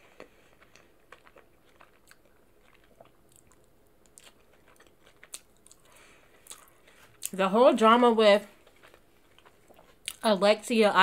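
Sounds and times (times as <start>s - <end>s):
chewing food: 0.0s - 7.4s, 8.4s - 10.3s.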